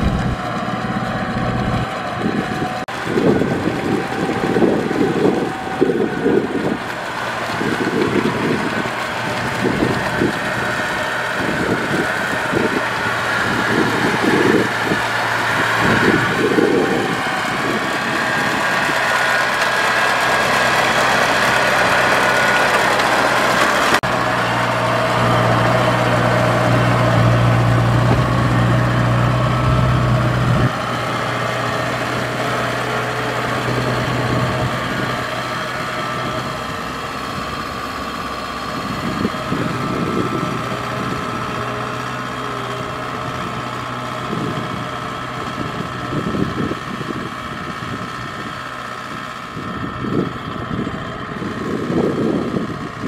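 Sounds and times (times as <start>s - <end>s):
diesel engine humming: 0.0s - 53.0s.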